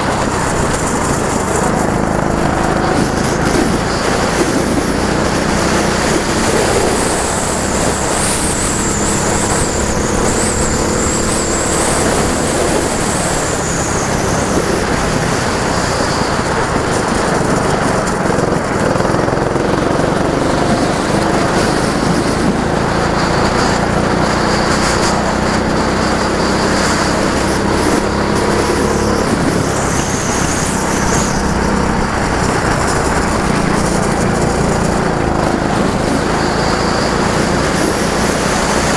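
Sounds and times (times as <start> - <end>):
go-kart engine running: 0.0 - 38.9
high engine whine: 0.0 - 38.9.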